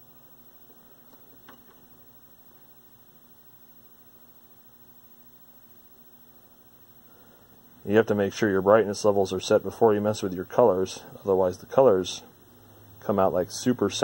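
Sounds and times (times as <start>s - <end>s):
faint electrical mains hum: 0.0s - 14.0s.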